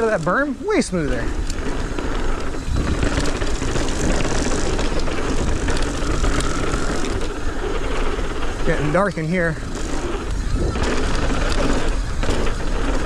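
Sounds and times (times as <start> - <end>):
bike clicks and rattles: 0.0 - 13.0
bike tyres rumbling on dirt: 0.0 - 13.0
wind rushing over camera: 0.0 - 13.0
faint steady squeal: 0.7 - 13.0.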